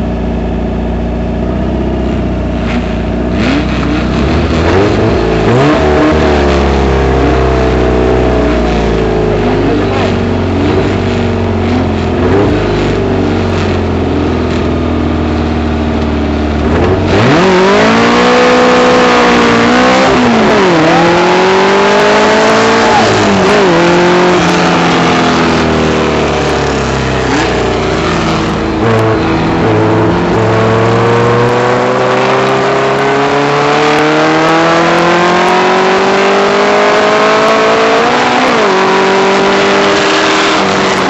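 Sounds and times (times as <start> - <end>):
dune buggy engine accelerating: 0.0 - 41.0.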